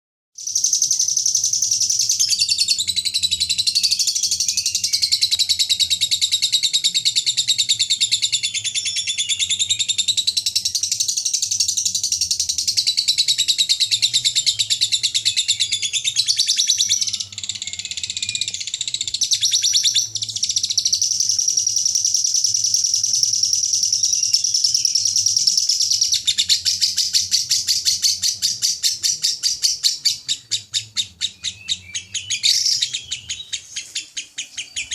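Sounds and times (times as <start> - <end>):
lovebird chattering trill: 0.4 - 34.9.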